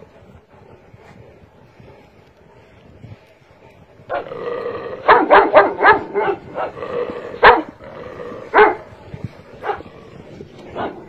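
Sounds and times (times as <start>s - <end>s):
dogs barking: 1.6s - 11.0s.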